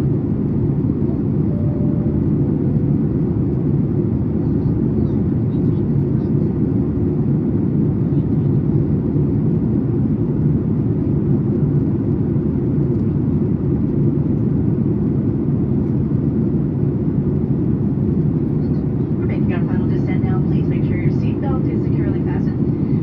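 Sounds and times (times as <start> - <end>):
airplane cabin low rumble: 0.0 - 23.0.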